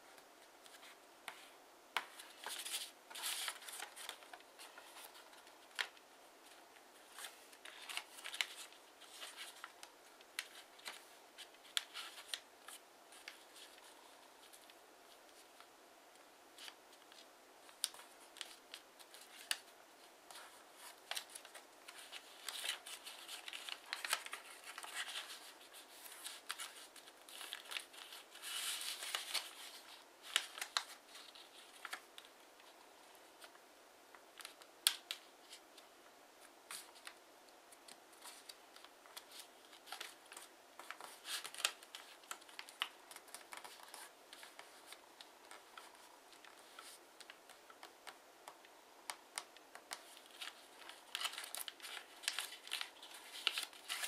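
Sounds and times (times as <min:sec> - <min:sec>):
paper rustling and crinkling: 0:00.0 - 0:33.6, 0:34.3 - 0:54.0.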